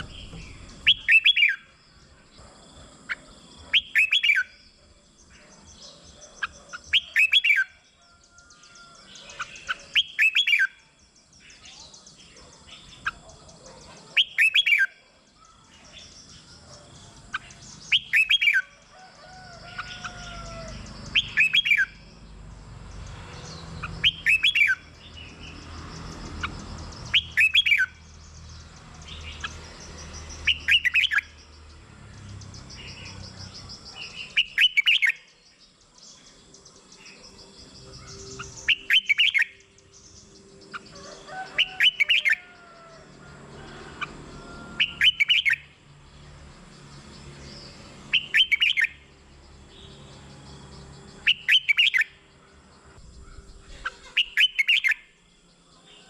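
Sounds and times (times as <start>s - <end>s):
bird warbling song: 0.0s - 56.0s.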